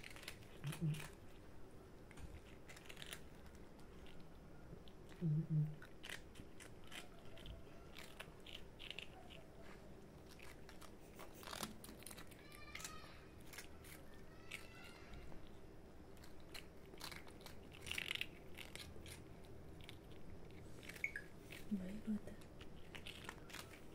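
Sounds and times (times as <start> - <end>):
cats crunching dry biscuits: 0.0 - 23.9.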